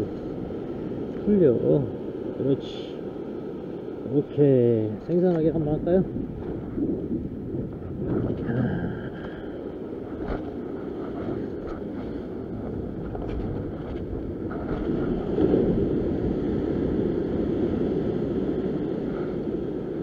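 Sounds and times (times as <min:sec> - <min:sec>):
surf washing against rocks: 0:00.0 - 0:20.0
wind buffeting microphone: 0:00.0 - 0:20.0.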